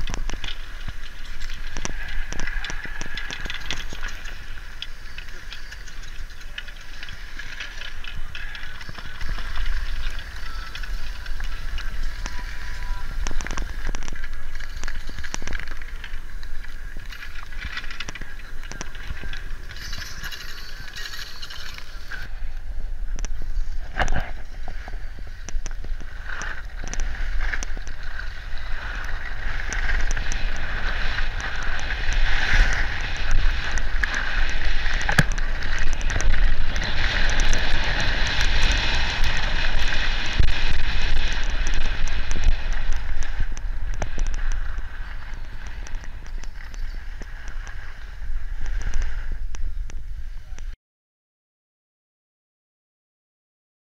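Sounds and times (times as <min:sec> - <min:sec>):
wind buffeting microphone: 0:00.0 - 0:50.8
skis hissing and scraping on snow: 0:00.1 - 0:22.3, 0:23.4 - 0:50.5.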